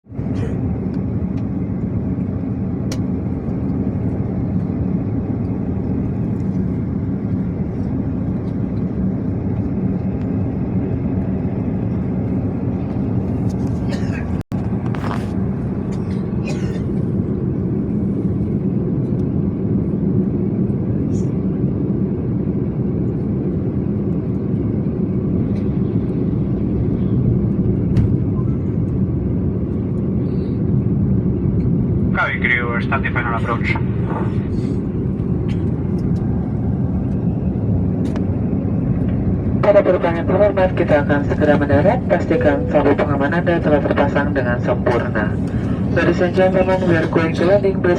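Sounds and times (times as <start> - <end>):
airliner cabin engine roar: 0.1 - 47.9.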